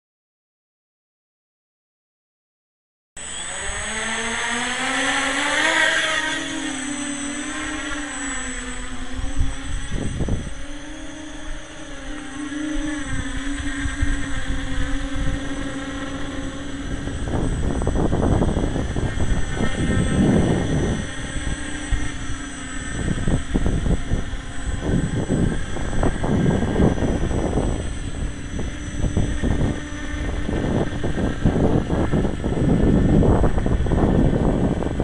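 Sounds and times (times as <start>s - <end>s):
drone propellers buzzing: 3.2s - 35.0s
wind rumbling on microphone: 3.5s - 35.0s.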